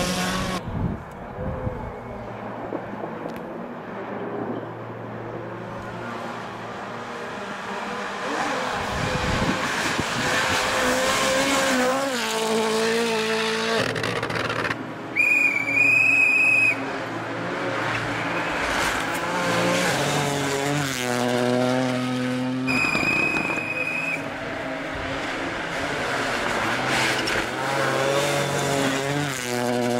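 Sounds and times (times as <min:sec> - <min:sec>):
rally car engines revving: 0:00.0 - 0:00.7, 0:05.0 - 0:29.9.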